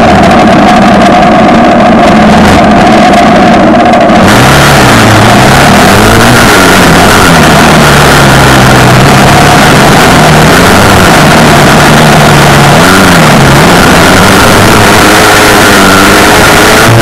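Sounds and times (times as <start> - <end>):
dense rumble of noise: 0.0 - 17.0
off-road vehicle engine running: 0.0 - 17.0.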